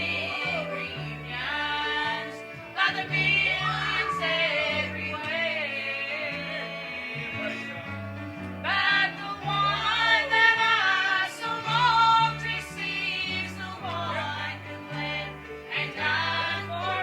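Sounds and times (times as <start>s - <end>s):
gospel singing with instruments: 0.0s - 17.0s.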